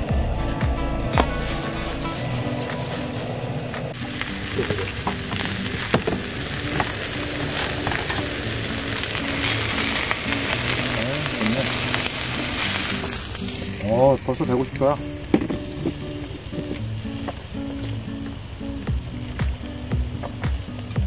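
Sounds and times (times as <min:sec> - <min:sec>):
steaks sizzling in skillet: 0:00.0 - 0:21.0.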